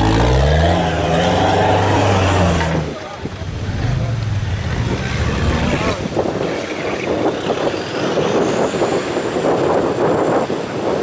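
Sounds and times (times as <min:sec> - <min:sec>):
off-road engine running under load: 0:00.0 - 0:10.4.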